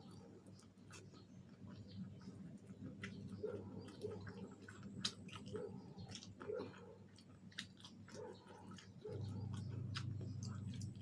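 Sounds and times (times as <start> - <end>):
chewing with wet mouth clicks: 0.0 - 11.0.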